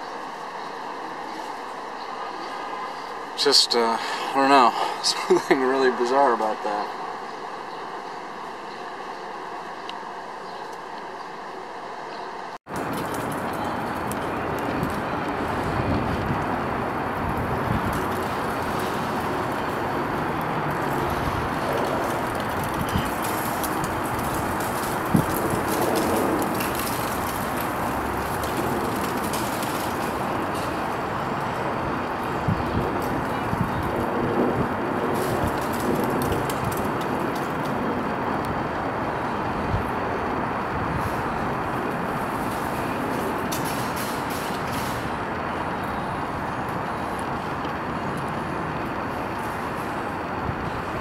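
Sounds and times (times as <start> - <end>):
city street traffic: 0.0 - 51.0.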